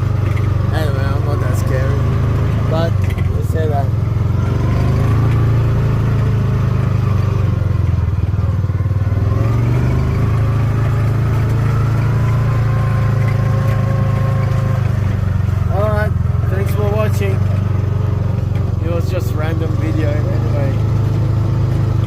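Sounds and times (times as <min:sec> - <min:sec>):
buggy engine running: 0:00.0 - 0:22.0.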